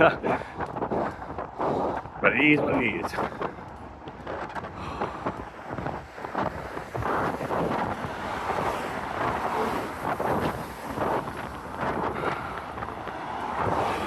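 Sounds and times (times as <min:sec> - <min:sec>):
road traffic passing: 0:00.0 - 0:14.0
wind buffeting microphone: 0:00.0 - 0:14.0.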